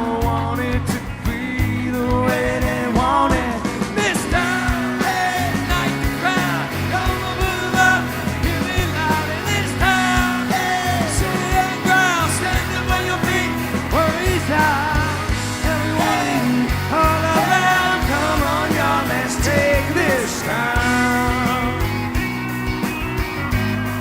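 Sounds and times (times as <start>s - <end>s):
rock song with vocals: 0.0s - 24.0s.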